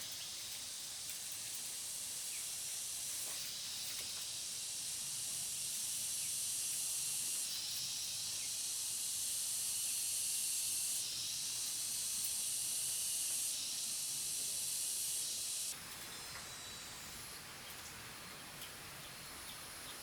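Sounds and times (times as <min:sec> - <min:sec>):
cicadas droning: 0:00.0 - 0:20.0
faint insect sounds: 0:00.0 - 0:20.0.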